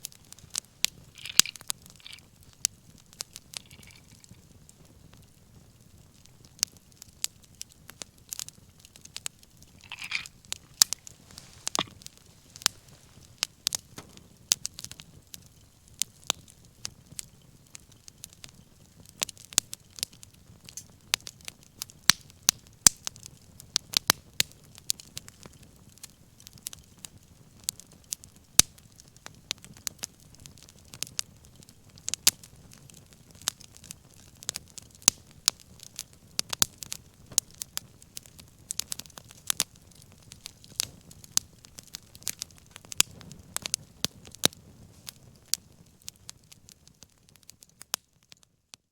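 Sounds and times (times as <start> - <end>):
low rumble of flames: 0.0 - 48.8
wood fire popping and snapping: 0.0 - 48.8.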